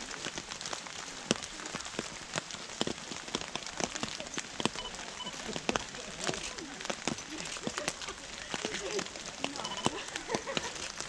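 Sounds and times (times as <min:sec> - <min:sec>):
rain falling: 0:00.0 - 0:11.0
raindrops tapping near microphone: 0:00.0 - 0:11.0.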